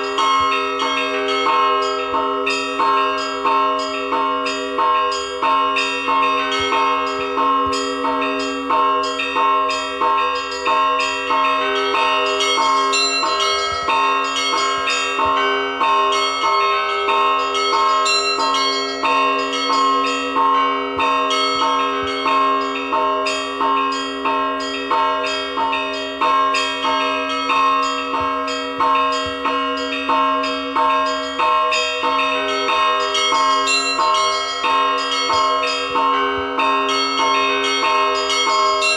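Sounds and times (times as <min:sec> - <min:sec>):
heavy bell strokes: 0:00.0 - 0:38.9
low bell hum: 0:00.0 - 0:38.9
small church bells striking: 0:00.0 - 0:38.9.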